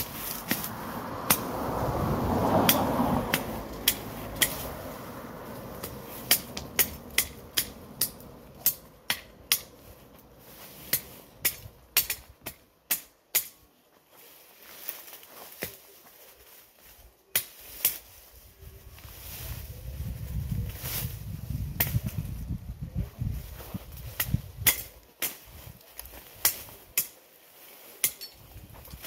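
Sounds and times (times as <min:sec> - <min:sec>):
vegetation rustling: 0:00.0 - 0:12.3, 0:13.8 - 0:29.0.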